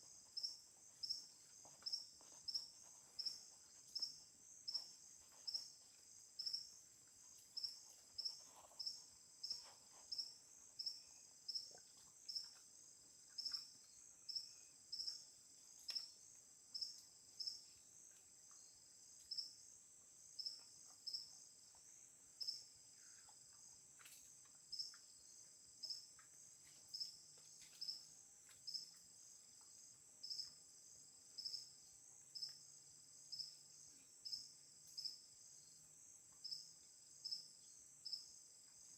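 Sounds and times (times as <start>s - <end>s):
faint high-pitched insect trill: 0.0s - 38.9s
insect chirp: 0.0s - 38.9s.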